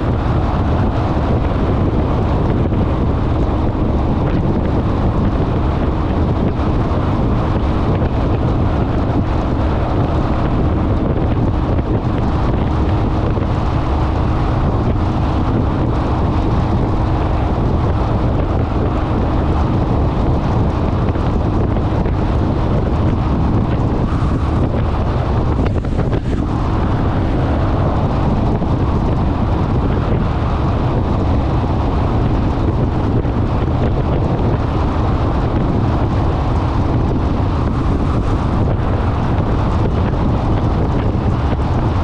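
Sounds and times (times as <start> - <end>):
motorcycle running: 0.0 - 42.0
wind buffeting microphone: 0.0 - 42.0.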